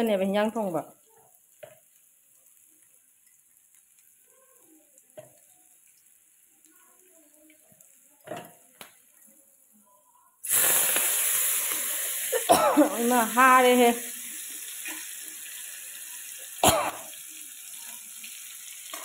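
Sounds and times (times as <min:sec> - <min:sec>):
greens sizzling in hot oil: 0:00.0 - 0:19.0.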